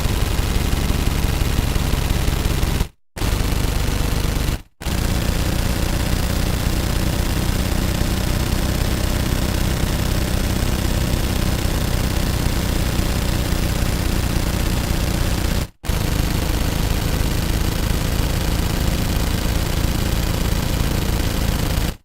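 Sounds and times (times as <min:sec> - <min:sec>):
automatic gunfire bursts: 0:00.0 - 0:22.0.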